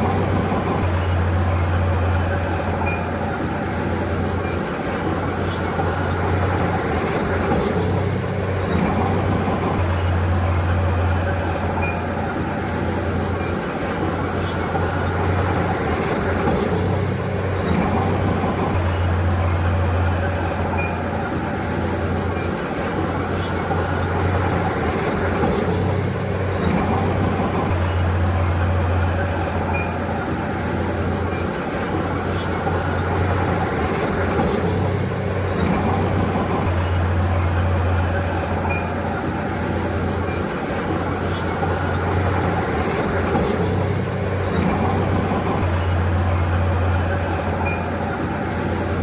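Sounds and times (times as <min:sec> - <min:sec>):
bulldozer diesel engine humming: 0:00.0 - 0:49.0.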